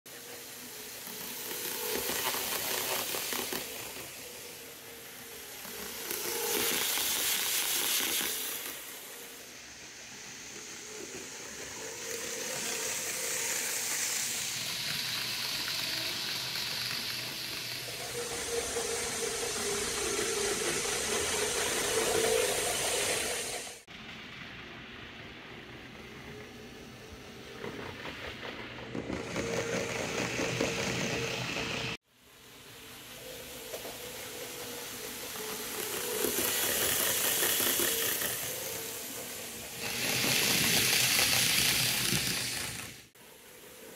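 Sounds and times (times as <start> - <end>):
faint motor whine: 0.1 - 43.9
model train wheels hissing on rail: 0.1 - 43.9.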